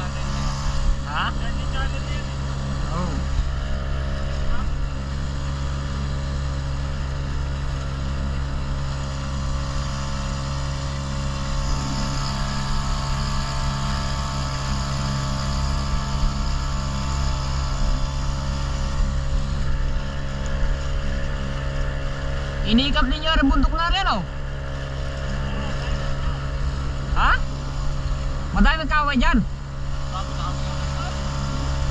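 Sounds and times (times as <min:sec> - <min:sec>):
motorboat engine running: 0:00.0 - 0:31.9.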